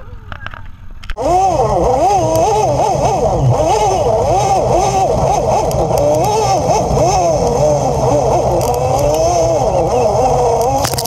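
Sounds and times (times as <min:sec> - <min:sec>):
vehicle engine revving: 0:01.2 - 0:11.0.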